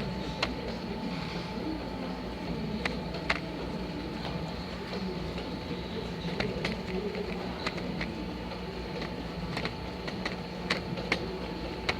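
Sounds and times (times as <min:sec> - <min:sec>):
machine humming: 0:00.0 - 0:11.9.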